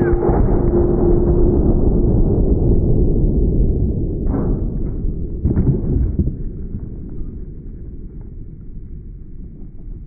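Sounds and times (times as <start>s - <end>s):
deep rumbling boom of bullet impact: 0.0s - 8.6s.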